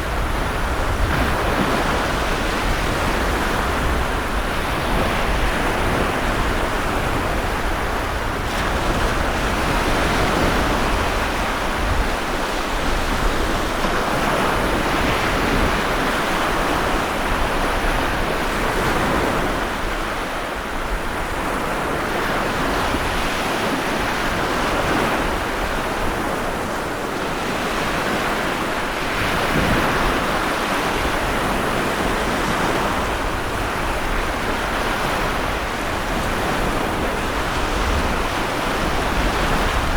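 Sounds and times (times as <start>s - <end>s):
waves breaking: 0.0s - 39.9s
wind: 0.0s - 39.9s.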